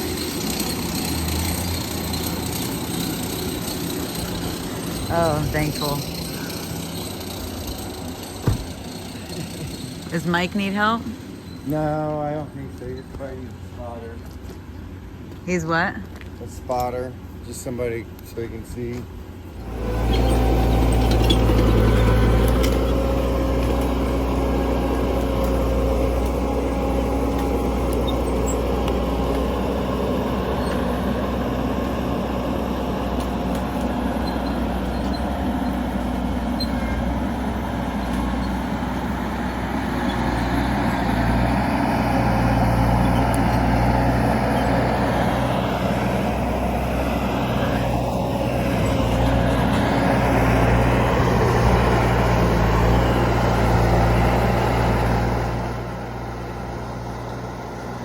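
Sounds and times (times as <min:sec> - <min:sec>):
skid steer engine under load: 0:00.0 - 0:15.4, 0:16.0 - 0:58.0.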